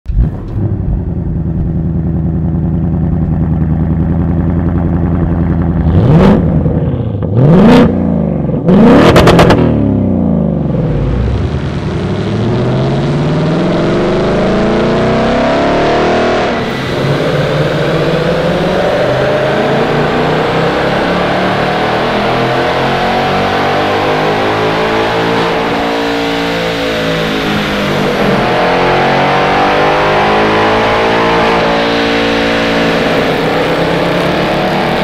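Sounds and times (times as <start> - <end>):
car engine starting and revving: 0.1 - 35.0.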